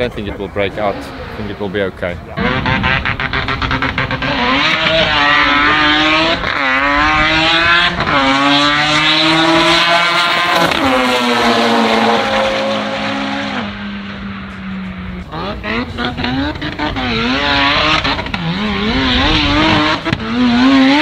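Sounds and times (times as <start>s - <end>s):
racing car accelerating: 0.0s - 21.0s.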